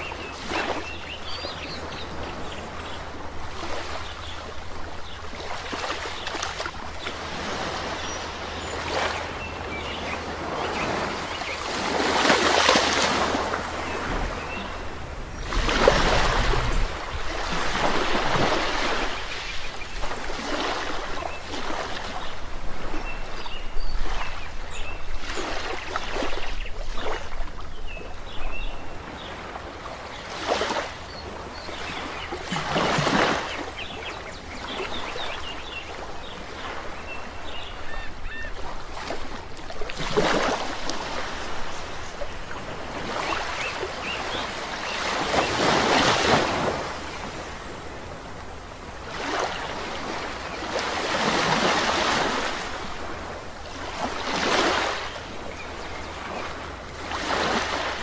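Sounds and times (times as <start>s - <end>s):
waves washing onto shore: 0.0s - 58.0s.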